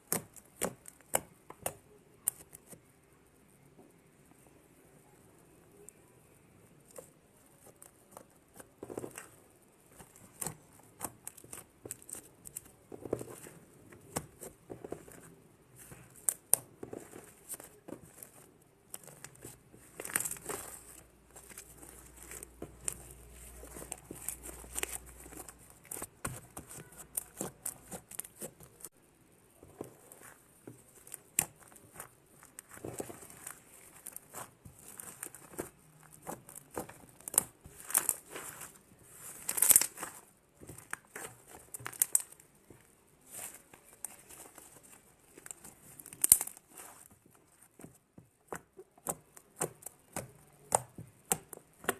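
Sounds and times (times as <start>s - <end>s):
slime crackling and squishing: 6.8s - 51.9s.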